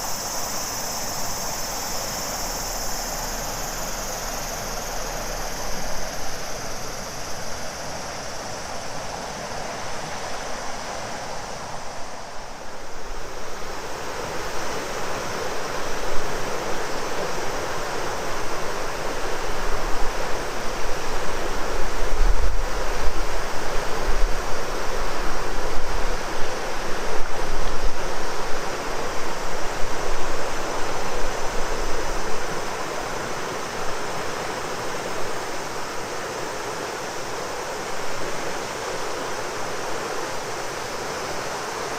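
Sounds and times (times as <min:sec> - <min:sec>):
cicadas droning: 0:00.0 - 0:41.9
river water rushing: 0:00.0 - 0:41.9.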